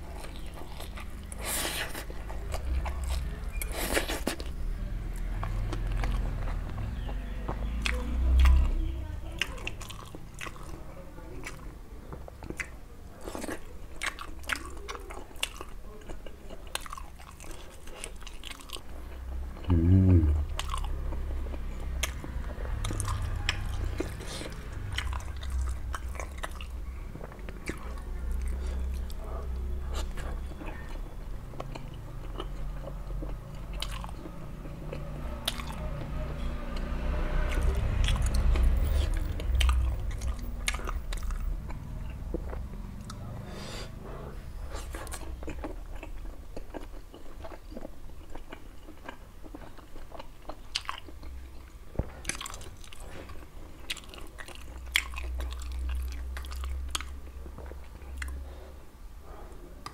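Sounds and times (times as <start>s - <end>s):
person chewing food: 0.0s - 8.8s, 9.4s - 59.9s.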